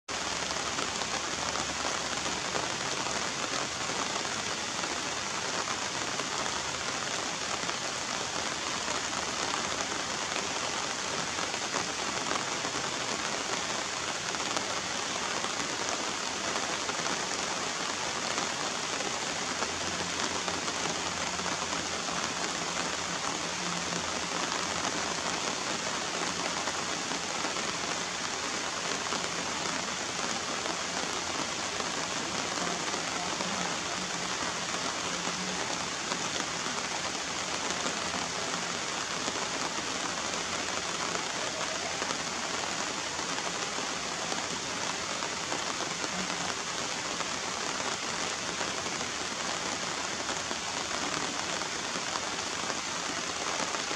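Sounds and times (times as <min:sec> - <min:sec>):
rain falling on puddles: 0:00.1 - 0:53.9.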